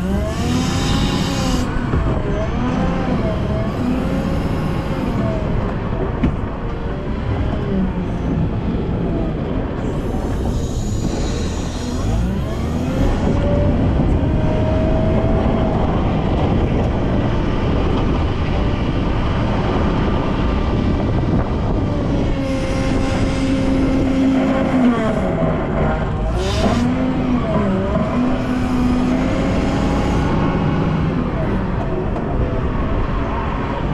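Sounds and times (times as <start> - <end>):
wheel loader diesel engine revving: 0.0 - 33.9.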